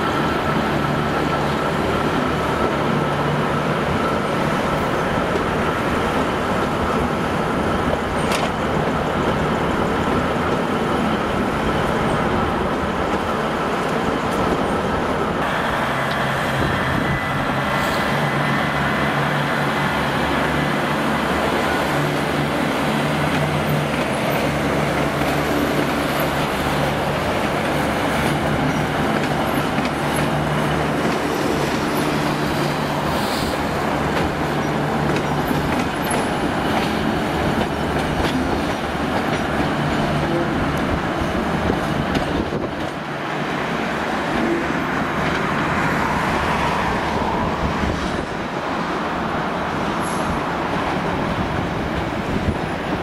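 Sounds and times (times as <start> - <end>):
diesel train engine drone: 0.0 - 53.0
wheel and track noise: 0.0 - 53.0.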